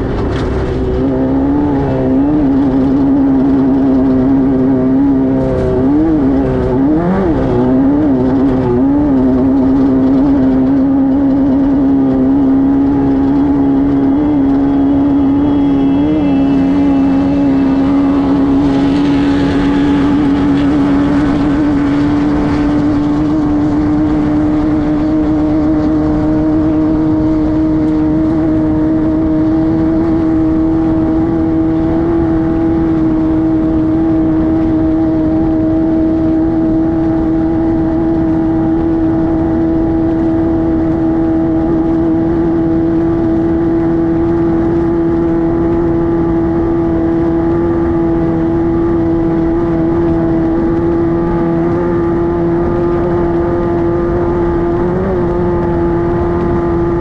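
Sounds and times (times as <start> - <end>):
car engine at high revs: 0.0 - 57.0
constant rush of noise: 0.0 - 57.0.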